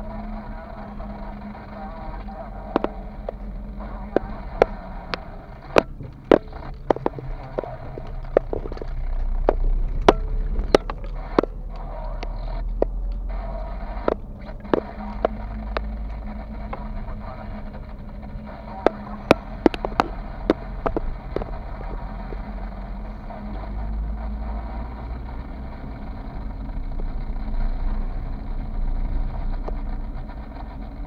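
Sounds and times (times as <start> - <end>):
car engine and road rumble: 0.0 - 31.0
sharp clicks and ticks: 0.0 - 31.0.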